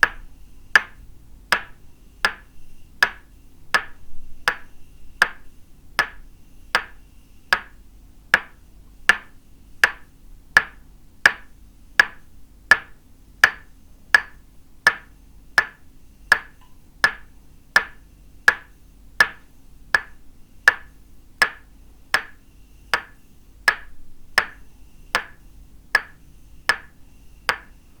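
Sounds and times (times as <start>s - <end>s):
wooden mallet tapping wooden stake: 0.0s - 5.4s, 6.0s - 6.2s, 6.8s - 7.8s, 8.4s - 19.4s, 20.0s - 24.6s, 25.2s - 25.4s, 26.0s - 26.9s, 27.5s - 27.7s.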